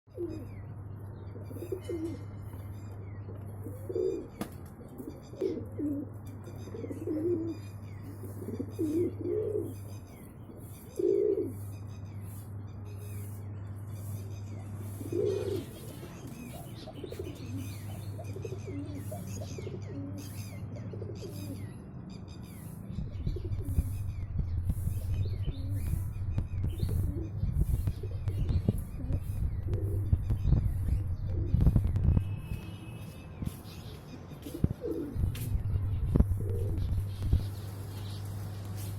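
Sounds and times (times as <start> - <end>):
birds cooing: 0.1 - 0.6, 1.3 - 12.1, 14.0 - 21.9, 23.2 - 32.1, 33.4 - 38.6.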